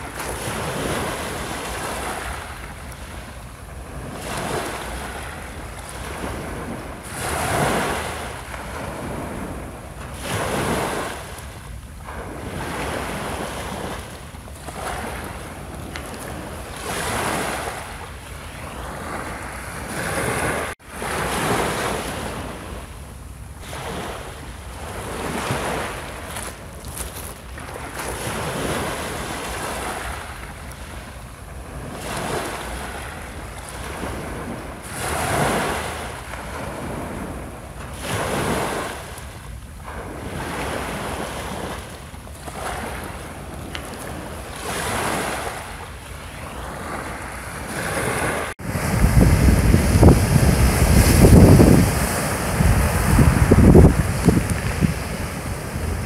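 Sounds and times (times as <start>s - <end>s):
waves washing on pebble beach: 0.0s - 22.9s, 23.6s - 56.0s.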